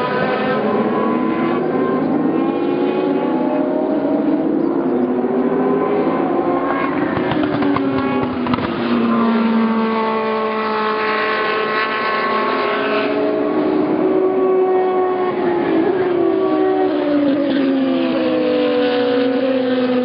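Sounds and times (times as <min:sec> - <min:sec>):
race car engines at high revs: 0:00.0 - 0:20.0.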